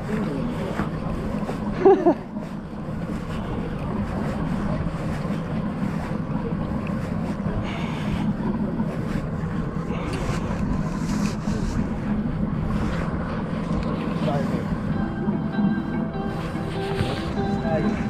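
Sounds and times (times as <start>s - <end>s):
boat engine humming: 0.0s - 18.0s
water noise: 0.0s - 18.0s.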